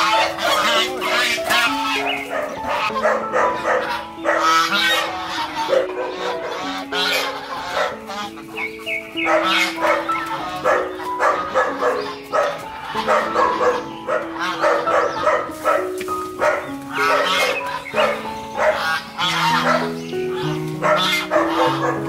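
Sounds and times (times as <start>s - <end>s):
background music with held notes: 0.0s - 22.0s
geese honking: 0.0s - 22.0s.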